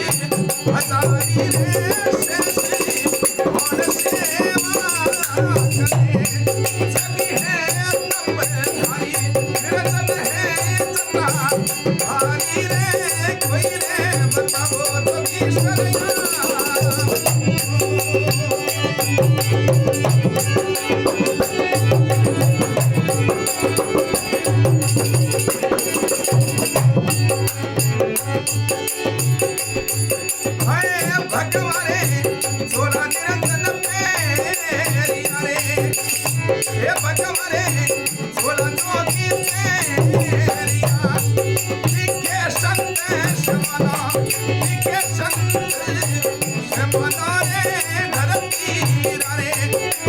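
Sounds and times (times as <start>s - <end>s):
devotional music: 0.0s - 50.0s
rattling percussion rhythm: 0.0s - 50.0s.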